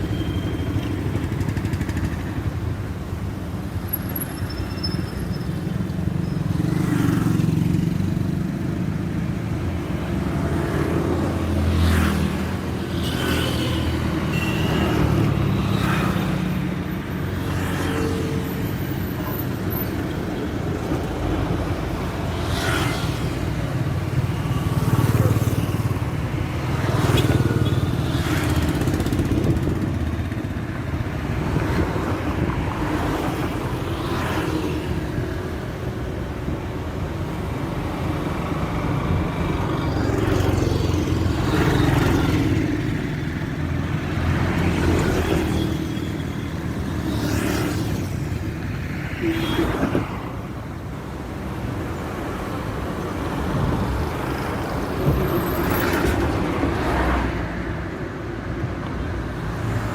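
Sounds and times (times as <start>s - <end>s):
low rumble of traffic: 0.0s - 59.9s
vehicles swishing past: 0.0s - 59.9s.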